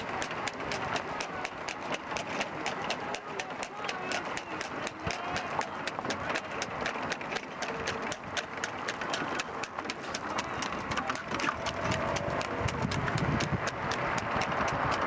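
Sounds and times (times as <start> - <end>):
horse hooves clip-clopping on pavement: 0.0 - 15.0.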